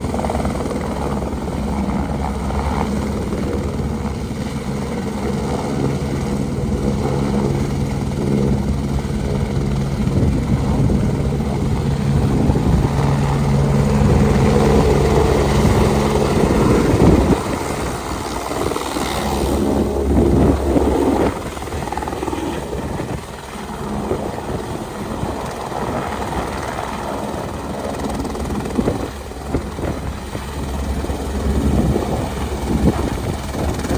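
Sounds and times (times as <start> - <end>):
helicopter rotor and turbine: 0.0 - 33.9.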